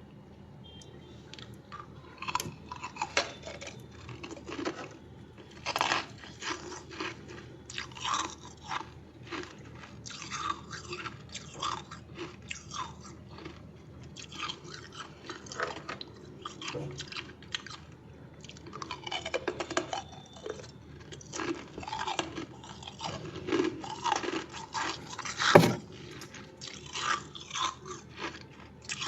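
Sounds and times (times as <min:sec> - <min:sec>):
chewing crunchy frost: 0:01.4 - 0:29.0.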